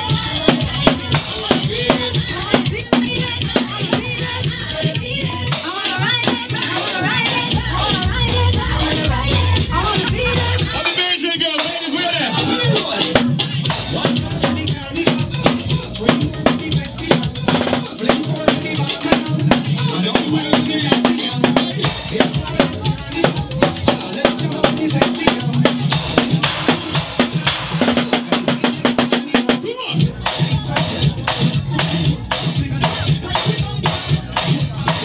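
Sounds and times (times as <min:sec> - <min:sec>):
drum kit playing: 0:00.0 - 0:35.0
loud dance music: 0:00.0 - 0:35.0.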